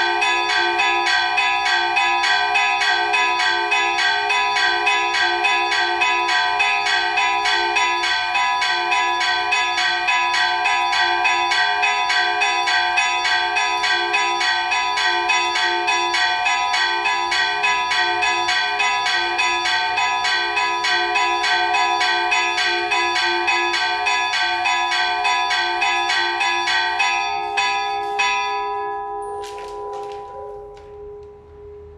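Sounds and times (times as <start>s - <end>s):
bells chiming rapidly: 0.0s - 31.4s.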